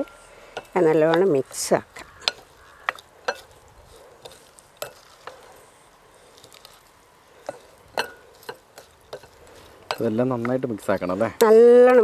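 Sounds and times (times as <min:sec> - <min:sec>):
spatula scraping wet food: 0:00.6 - 0:11.2.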